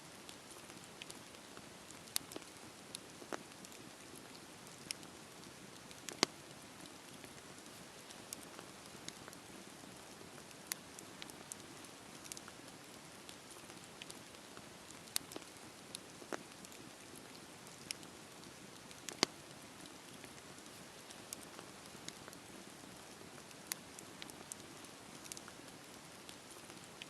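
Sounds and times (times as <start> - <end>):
wood crackling and popping: 0.2 - 27.0.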